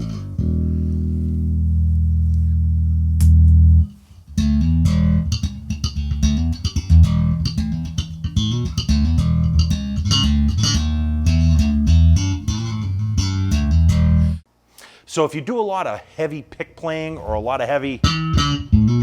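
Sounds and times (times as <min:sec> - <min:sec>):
electric bass notes: 0:00.0 - 0:14.5, 0:17.2 - 0:19.0.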